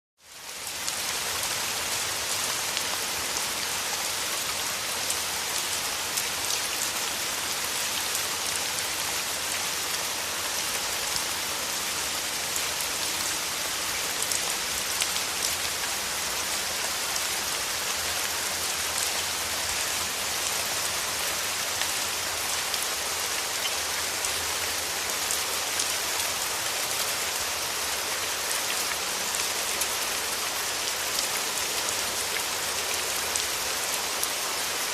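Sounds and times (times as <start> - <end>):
steady rainfall: 0.2 - 34.9.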